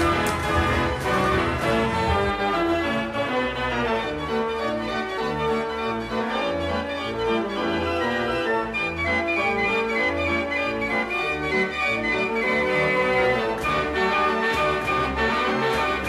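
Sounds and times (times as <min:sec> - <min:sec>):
organ music: 0:00.0 - 0:16.0.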